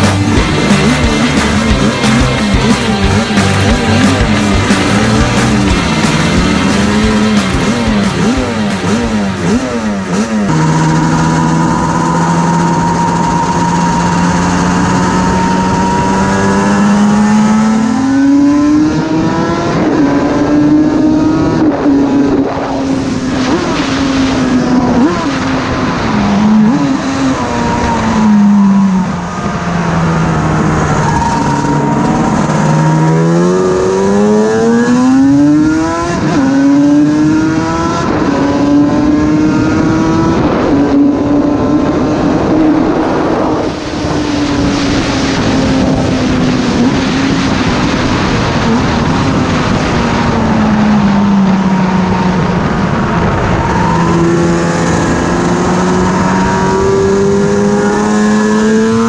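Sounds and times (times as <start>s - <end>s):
racing motorcycle engine: 0.0s - 59.0s.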